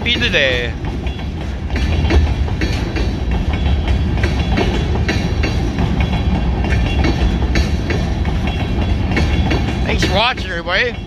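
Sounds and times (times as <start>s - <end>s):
train wheels rumbling on rail: 0.0s - 11.0s
wheels clacking over rail joints: 0.0s - 11.0s.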